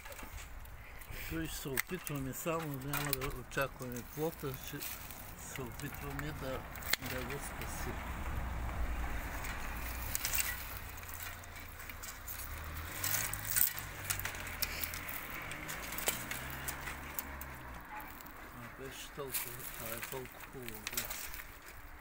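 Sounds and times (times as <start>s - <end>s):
dry canes rustling: 0.0s - 22.0s
pruning shears snipping: 0.1s - 21.9s.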